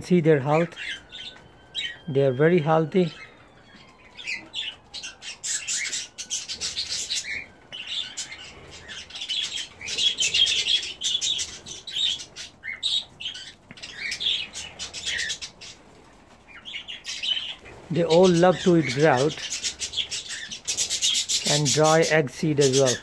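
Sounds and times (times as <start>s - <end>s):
parakeets chattering: 0.0s - 23.0s.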